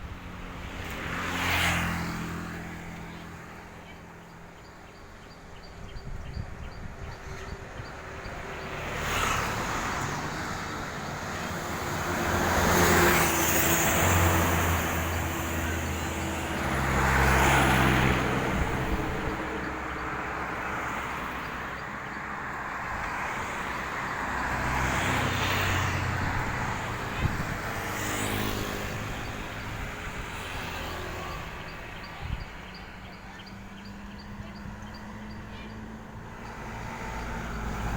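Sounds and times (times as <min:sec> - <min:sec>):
vehicles passing: 0:00.0 - 0:37.9.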